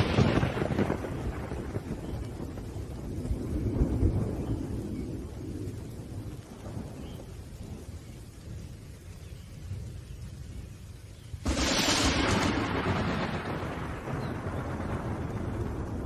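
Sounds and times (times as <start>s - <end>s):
thunder rumbling: 0.0s - 10.7s, 11.4s - 16.0s
faint hiss of rain: 0.0s - 16.0s.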